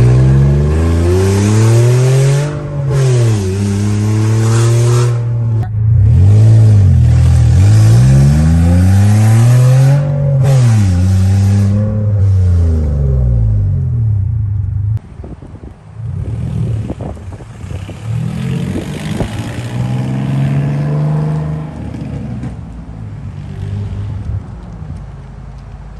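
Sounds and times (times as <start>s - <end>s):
car engine revving: 0.0s - 15.0s, 16.0s - 22.6s.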